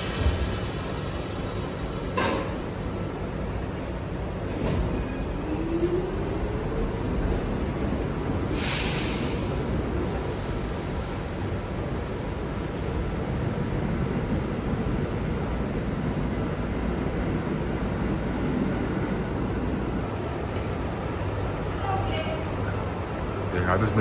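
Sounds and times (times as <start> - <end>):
subway train rumble and hiss: 0.0 - 24.0.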